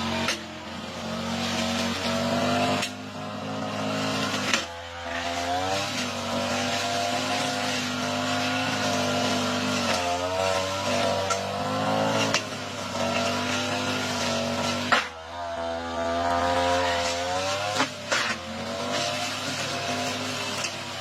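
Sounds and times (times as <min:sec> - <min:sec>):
lawn mower engine cutting grass: 0:00.0 - 0:21.0.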